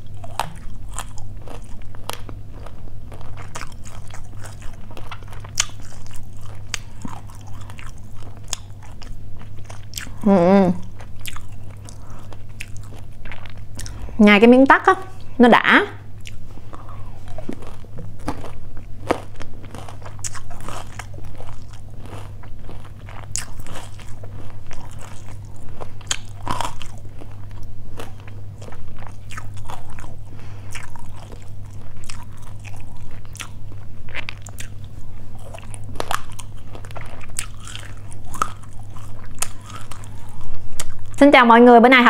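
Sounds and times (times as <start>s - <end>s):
close chewing and crunching: 0.0s - 14.2s, 16.2s - 41.2s.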